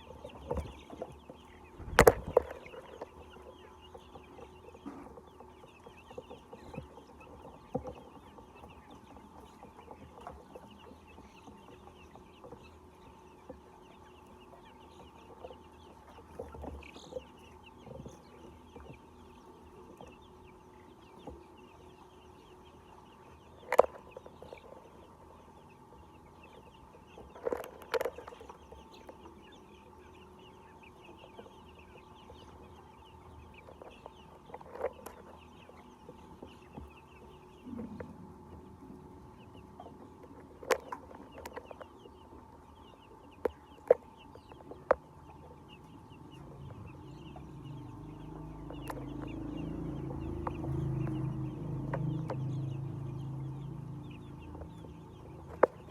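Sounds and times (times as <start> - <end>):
hens clucking: 0.0 - 55.9.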